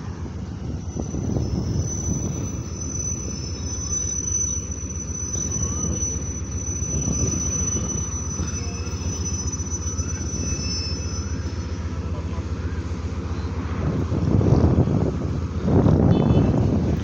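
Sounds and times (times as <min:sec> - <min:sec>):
locomotive engine low throb: 0:00.0 - 0:17.0.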